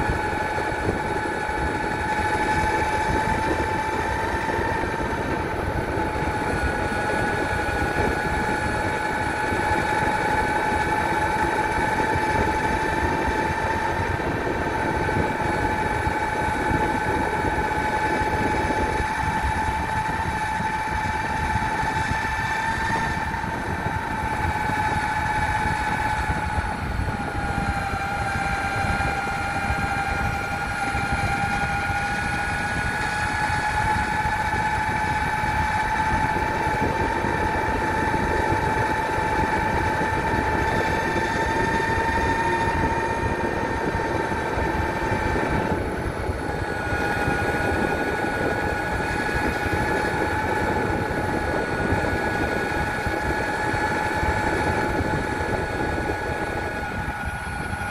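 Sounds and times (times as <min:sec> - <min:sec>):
electric motors whining: 0:00.0 - 0:57.9.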